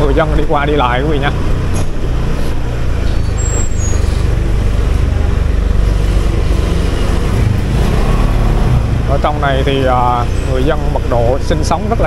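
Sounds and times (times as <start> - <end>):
road and wind noise: 0.0 - 12.0
scooter engine running: 0.0 - 12.0.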